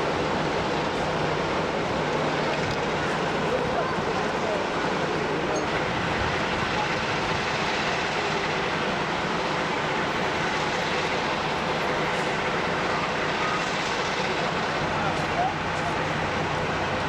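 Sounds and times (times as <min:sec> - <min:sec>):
locomotive engine drone: 0:00.0 - 0:17.0.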